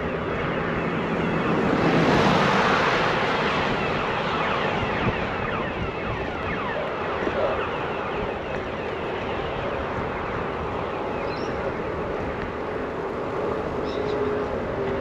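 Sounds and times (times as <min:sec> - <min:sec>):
bicycle tyres rolling on asphalt: 0:00.0 - 0:15.0
wind rushing over microphone: 0:00.0 - 0:15.0.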